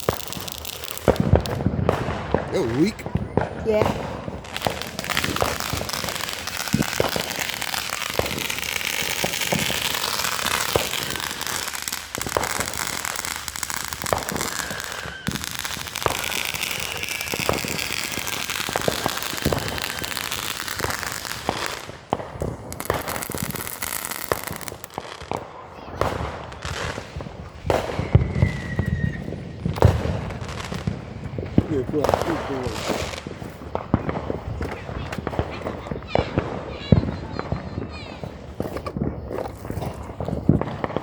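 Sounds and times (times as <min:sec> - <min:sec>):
fireworks crackling and popping: 0:00.0 - 0:41.0.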